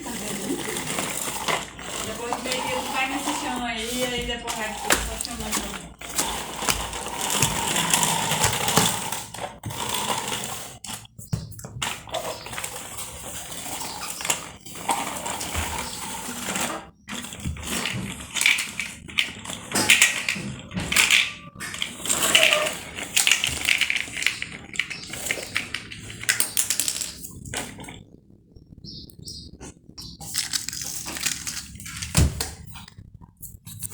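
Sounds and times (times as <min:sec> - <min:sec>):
plastic toy vehicles clattering: 0:00.0 - 0:11.2, 0:11.8 - 0:28.0, 0:30.1 - 0:33.0.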